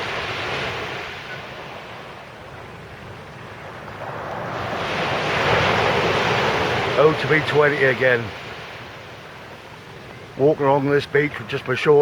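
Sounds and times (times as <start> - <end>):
sea surf washing up beach: 0.0 - 12.0.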